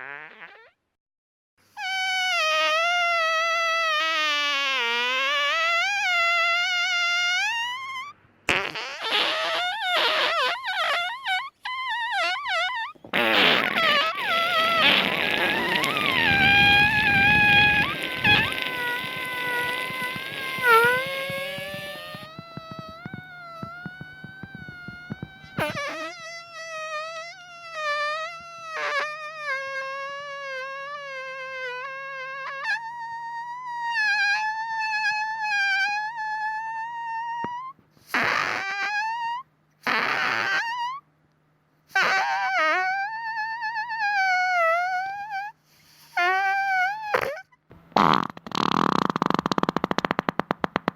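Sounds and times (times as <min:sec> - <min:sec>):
farts: 0:00.0 - 0:00.8, 0:01.7 - 0:41.0, 0:41.9 - 0:50.9.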